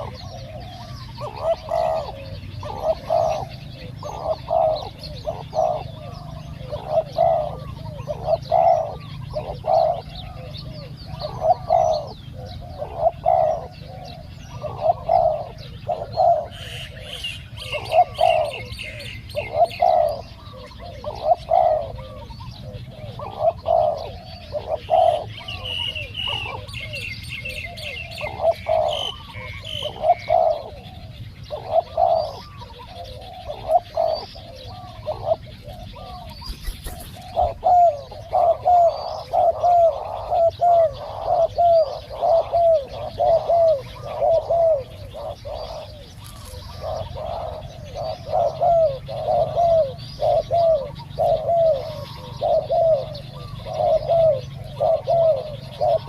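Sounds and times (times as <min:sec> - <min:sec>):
doves cooing: 0:00.0 - 0:56.0
small birds chirping: 0:00.0 - 0:56.0.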